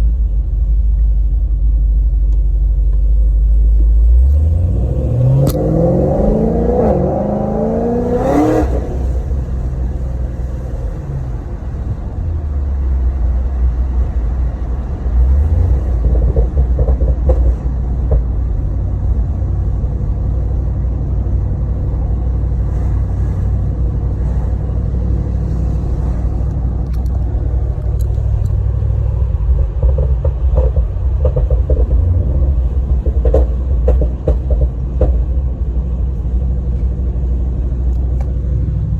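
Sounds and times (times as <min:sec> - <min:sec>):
low exhaust rumble: 0:00.0 - 0:38.9
car engine revving: 0:03.4 - 0:38.9.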